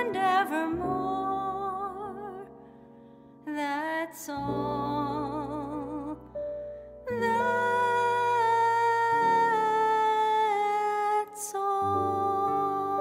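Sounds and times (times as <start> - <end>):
woman singing with vibrato: 0.0 - 2.5, 3.5 - 6.2, 7.1 - 13.0.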